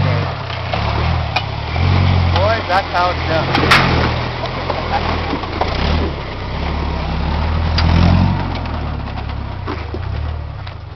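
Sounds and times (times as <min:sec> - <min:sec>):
truck engine working under load: 0:00.0 - 0:10.9.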